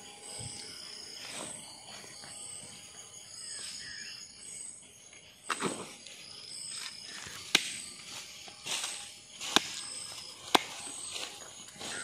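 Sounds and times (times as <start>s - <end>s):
insect and bird chirps: 0.0s - 12.0s.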